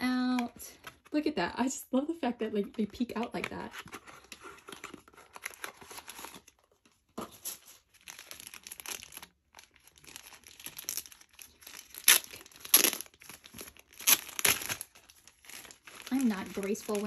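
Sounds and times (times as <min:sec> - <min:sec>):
plastic wrapper crinkling: 0:03.3 - 0:17.0.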